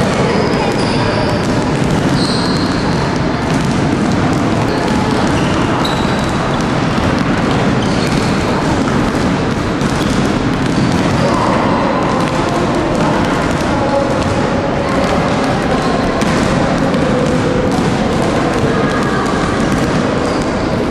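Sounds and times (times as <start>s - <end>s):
basketballs bouncing on wooden floor: 0.0s - 20.9s.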